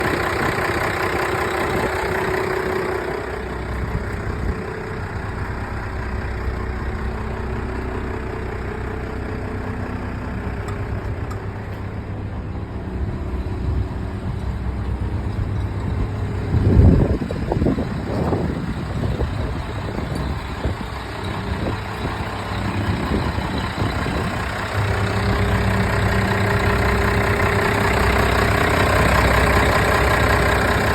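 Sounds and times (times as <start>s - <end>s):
fire truck engine idling: 0.0s - 30.9s.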